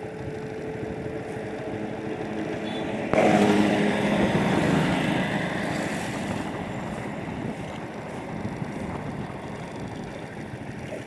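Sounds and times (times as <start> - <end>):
engine: 0.0 - 11.0
wind buffeting microphone: 0.0 - 11.0.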